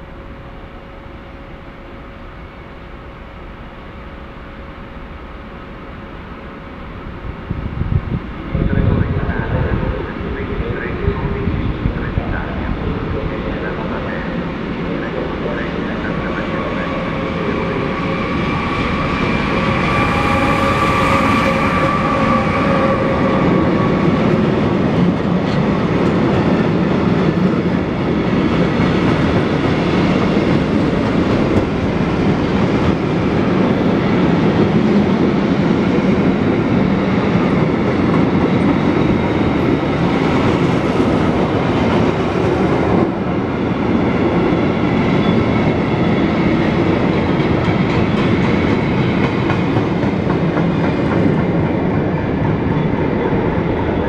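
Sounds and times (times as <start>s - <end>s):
electric locomotive whine: 0.0s - 54.0s
train wheels rumbling on rails: 0.0s - 54.0s.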